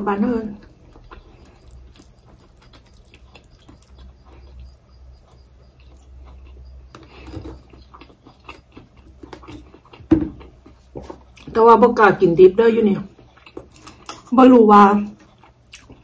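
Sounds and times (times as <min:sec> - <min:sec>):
faint low hum: 0:00.0 - 0:16.0
wet chewing sounds: 0:00.6 - 0:11.7, 0:13.0 - 0:16.0.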